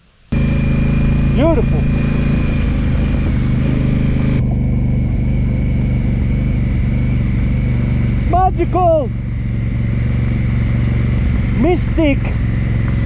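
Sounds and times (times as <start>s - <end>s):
motorcycle engine running: 0.3s - 13.0s.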